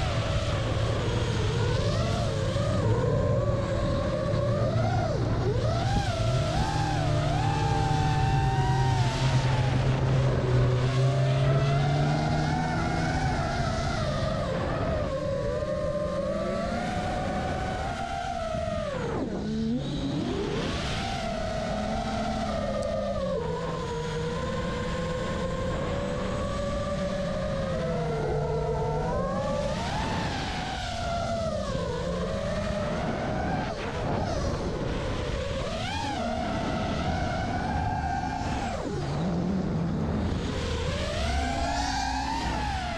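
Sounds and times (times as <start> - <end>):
drone motors and propellers whining: 0.0 - 42.9
snowmobile engine drone: 0.0 - 42.9.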